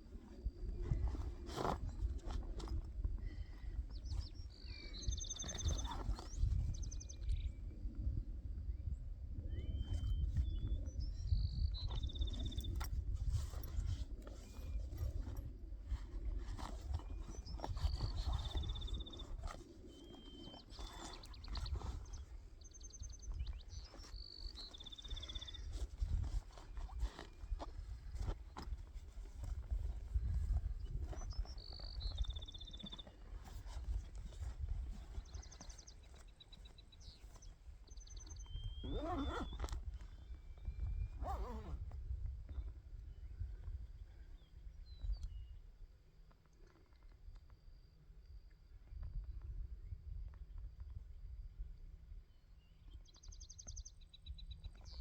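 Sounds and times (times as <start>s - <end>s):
songbird singing: 0.4s - 41.9s, 42.5s - 45.7s, 51.6s - 55.0s.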